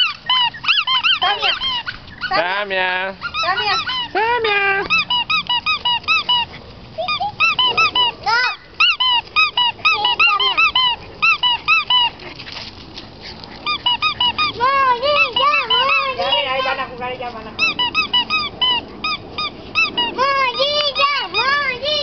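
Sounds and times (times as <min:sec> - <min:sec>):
squeaky dog toy squeaking: 0:00.0 - 0:12.2, 0:13.6 - 0:16.9, 0:17.6 - 0:22.0.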